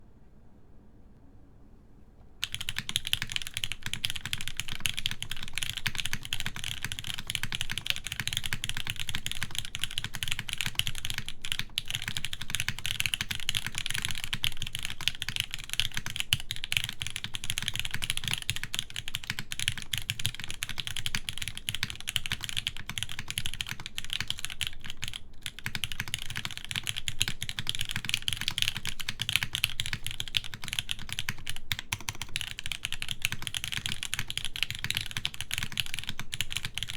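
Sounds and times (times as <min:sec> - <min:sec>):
mechanical keyboard typing: 0:02.4 - 0:36.9.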